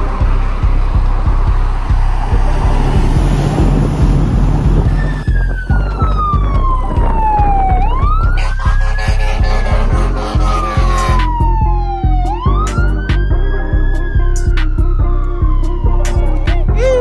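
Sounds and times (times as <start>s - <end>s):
music with heavy bass beat: 0.0s - 17.0s
ambulance siren wail: 0.6s - 17.0s.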